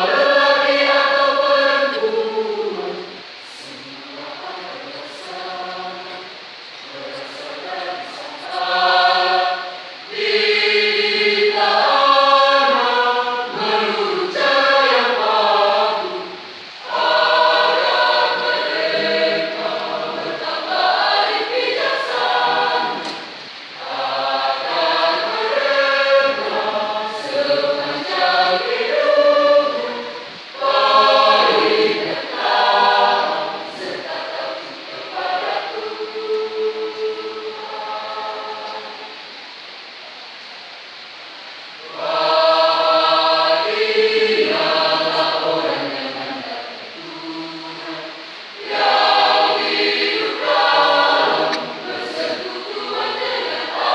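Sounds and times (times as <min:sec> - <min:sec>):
choir singing in harmony: 0:00.0 - 0:40.0, 0:40.8 - 0:53.9.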